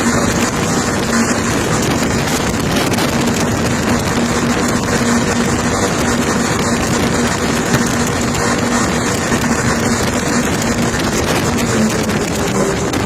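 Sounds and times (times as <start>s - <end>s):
powerboat engine hum: 0.0s - 13.0s.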